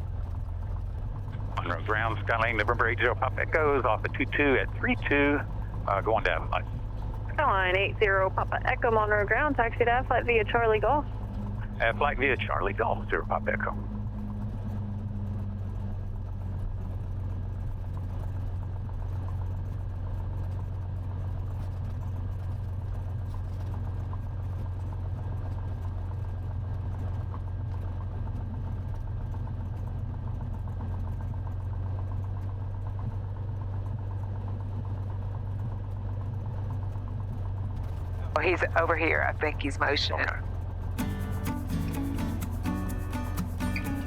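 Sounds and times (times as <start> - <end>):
airplane engine droning: 0.0 - 44.0.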